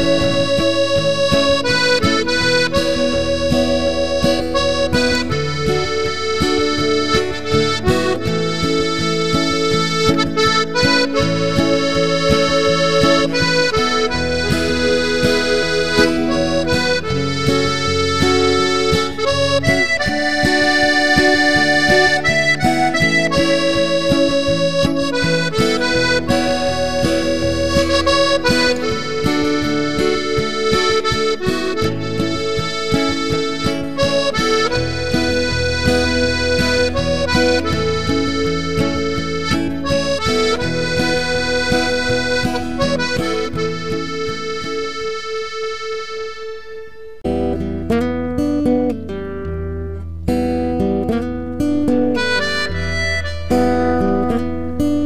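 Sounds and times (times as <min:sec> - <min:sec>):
instrumental music: 0:00.0 - 0:55.0.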